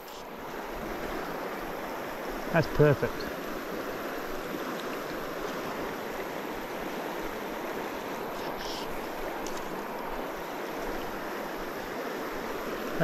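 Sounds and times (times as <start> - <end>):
river rushing over boulders: 0.0 - 13.0.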